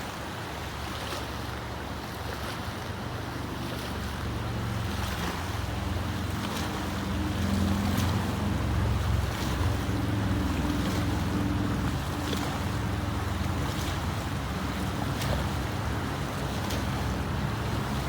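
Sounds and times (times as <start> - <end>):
river water running fast: 0.0 - 18.0.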